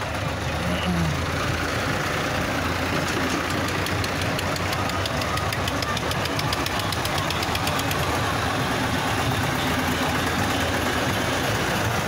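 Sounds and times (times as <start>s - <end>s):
tractor engines driving past: 0.0s - 12.0s.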